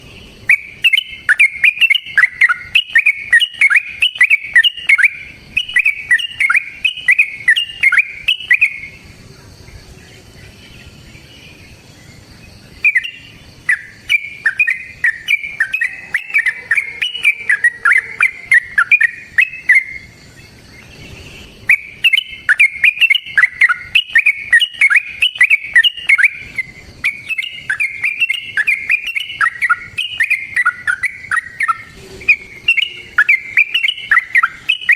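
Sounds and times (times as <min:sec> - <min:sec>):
bulbul chattering song: 0:00.0 - 0:34.9.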